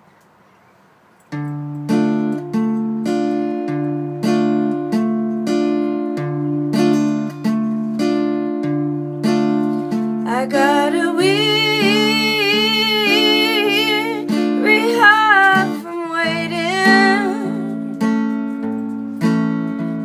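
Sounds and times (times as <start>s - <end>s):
acoustic guitar strumming: 1.3s - 20.0s.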